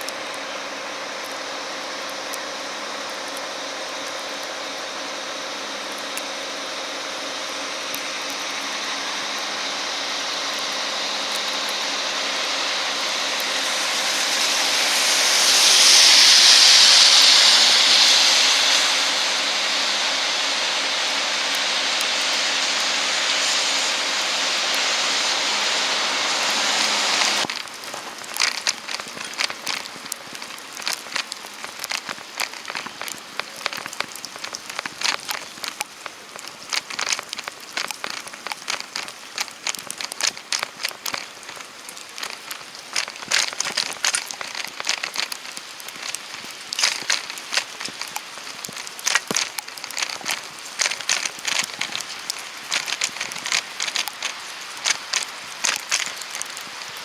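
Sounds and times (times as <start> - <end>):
traffic hum: 0.0 - 57.0
vehicle passing on wet street: 0.0 - 57.0
wet snow ticking on surface: 0.0 - 57.0.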